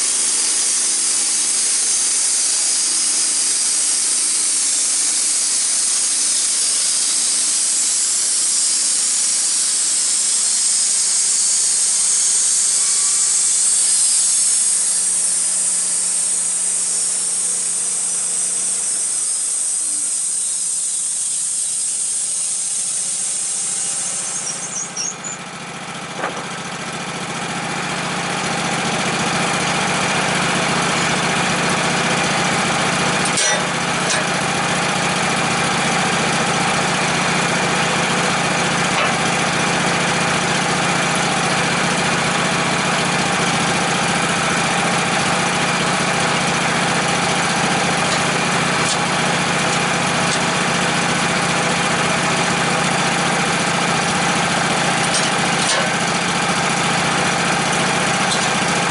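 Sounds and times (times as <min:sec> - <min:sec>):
engine running: 0:00.0 - 0:58.9
loud steady hiss: 0:00.0 - 0:58.9.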